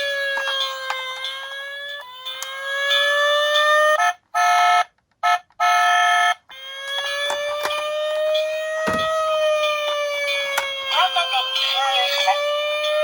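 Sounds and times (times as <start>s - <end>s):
toy car siren wailing: 0.0s - 13.0s.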